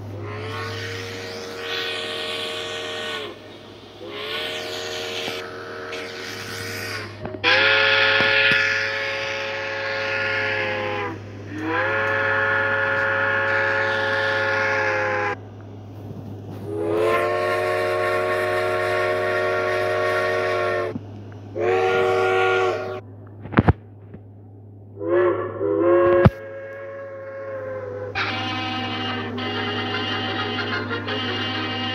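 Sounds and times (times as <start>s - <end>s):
steady low hum: 0.0s - 31.9s
steam locomotive chime whistle: 0.1s - 15.4s, 16.6s - 21.0s, 21.6s - 23.0s, 25.0s - 31.9s.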